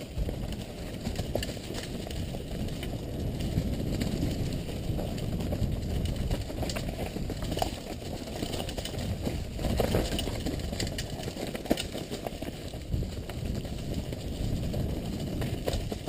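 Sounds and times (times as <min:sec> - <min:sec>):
bike rattling and knocking: 0:00.0 - 0:16.0
bike tyres rumbling over dirt: 0:00.0 - 0:16.0.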